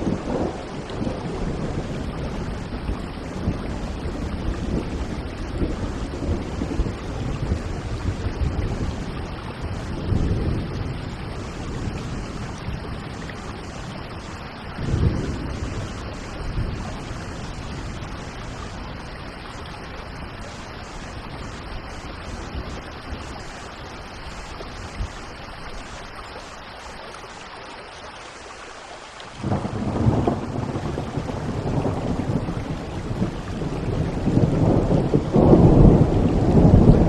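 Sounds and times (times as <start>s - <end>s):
thunder rumbling: 0.0s - 25.3s, 29.4s - 37.0s
steady rain falling: 0.0s - 37.0s.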